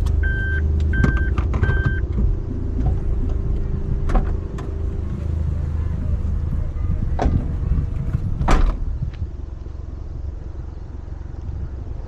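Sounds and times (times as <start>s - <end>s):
car engine and tyres on gravel: 0.0s - 12.0s.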